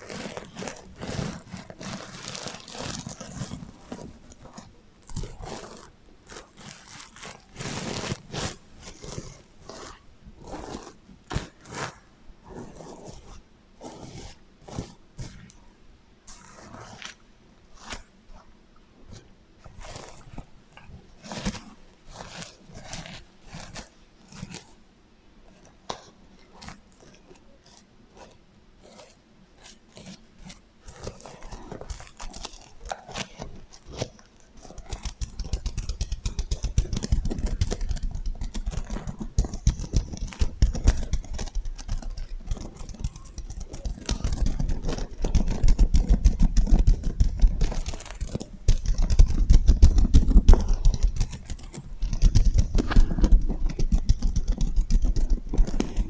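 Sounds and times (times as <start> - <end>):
scratching and rubbing sequins: 0.0 - 56.0.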